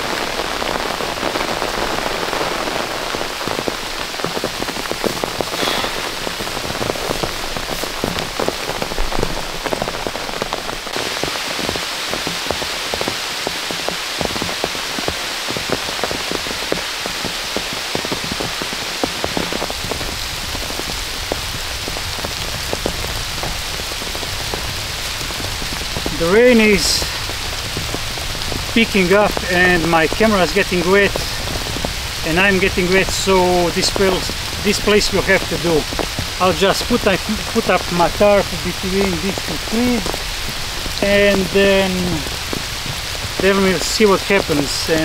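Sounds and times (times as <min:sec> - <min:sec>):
heavy rain hiss: 0:00.0 - 0:45.0
raindrops clicking near microphone: 0:00.0 - 0:45.0.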